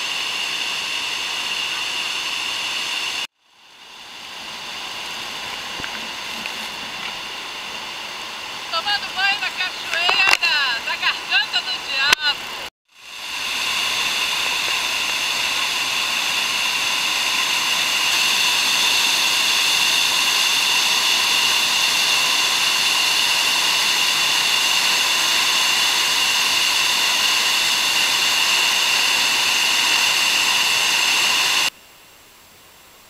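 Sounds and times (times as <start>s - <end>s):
waterfall rushing: 0.0s - 31.7s.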